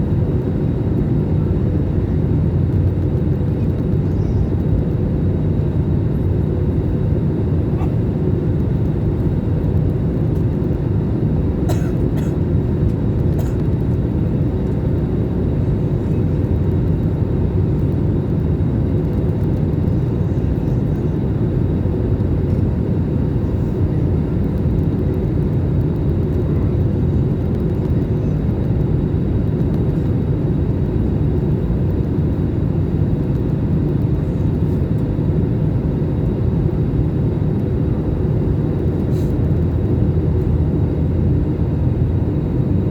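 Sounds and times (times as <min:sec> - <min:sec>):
jet airliner engines rumbling: 0:00.0 - 0:42.9.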